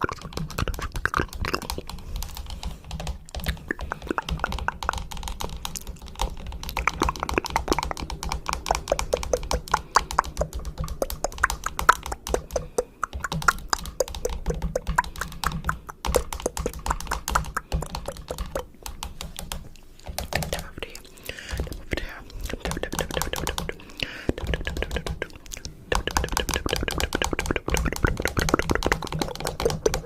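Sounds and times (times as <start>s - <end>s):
rapid irregular clicking: 0.0s - 30.0s.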